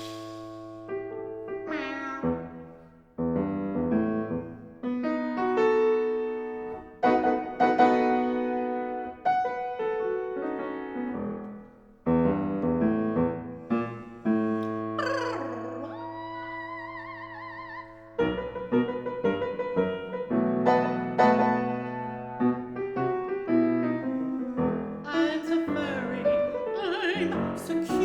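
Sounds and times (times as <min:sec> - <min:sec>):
solo piano chords: 0:00.0 - 0:28.0.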